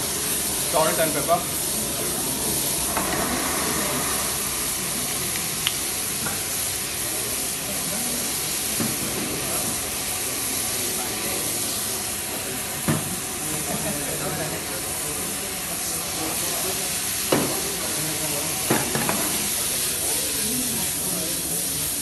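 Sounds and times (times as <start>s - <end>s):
vegetables sizzling in a frying pan: 0.0s - 22.0s.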